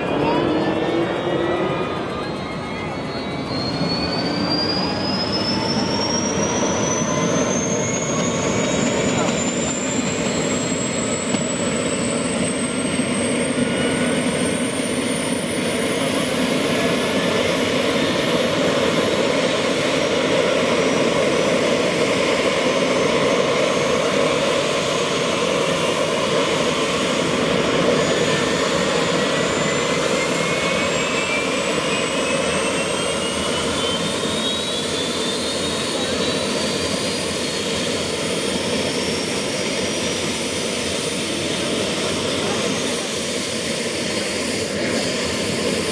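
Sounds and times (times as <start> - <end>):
helicopter turbine spooling up: 0.0 - 45.9.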